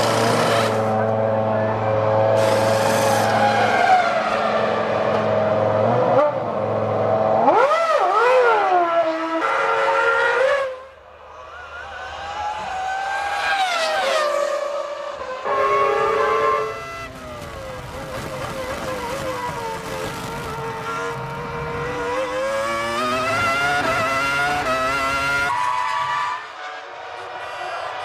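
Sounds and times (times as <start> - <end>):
racing car engines at high revs: 0.0 - 28.0.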